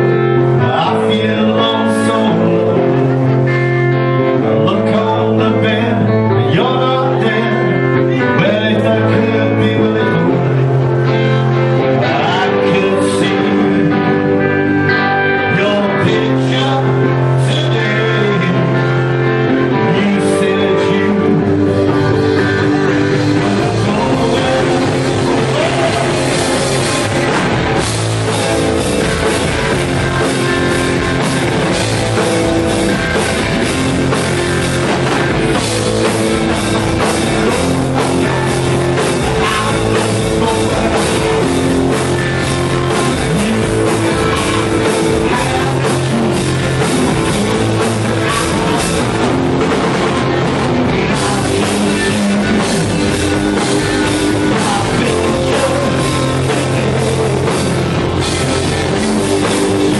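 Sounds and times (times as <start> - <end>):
punk rock band playing: 0.0 - 59.9.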